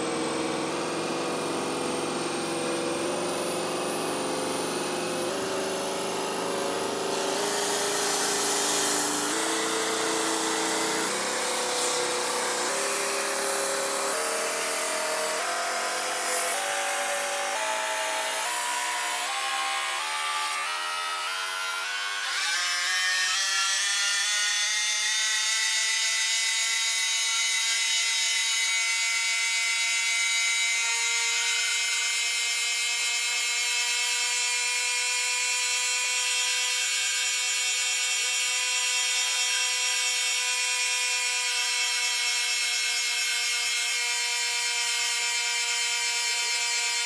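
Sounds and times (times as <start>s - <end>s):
belt grinder high-pitched whine: 0.0s - 47.0s.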